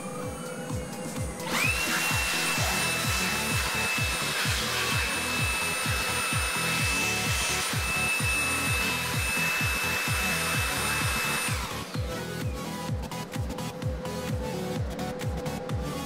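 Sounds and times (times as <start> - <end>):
vacuum cleaner whine and rushing air: 0.0 - 16.0.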